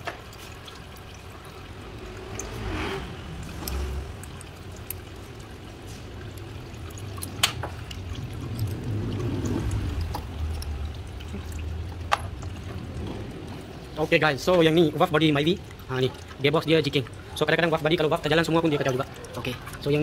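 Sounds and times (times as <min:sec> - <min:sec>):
fluid trickling into drain pan: 0:00.0 - 0:20.0.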